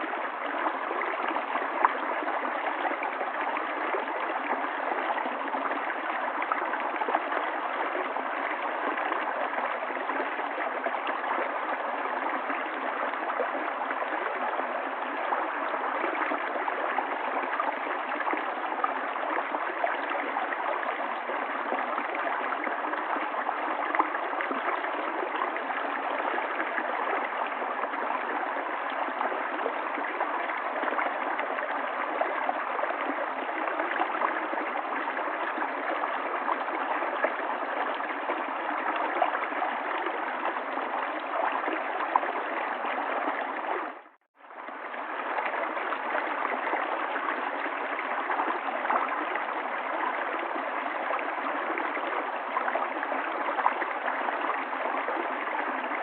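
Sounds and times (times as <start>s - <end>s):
river babbling over stones: 0.0s - 56.0s.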